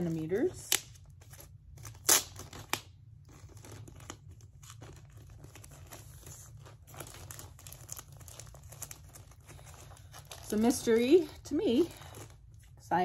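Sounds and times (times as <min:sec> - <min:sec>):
plastic packaging ripping: 0:00.0 - 0:12.6
plastic packaging crinkling: 0:00.0 - 0:12.8.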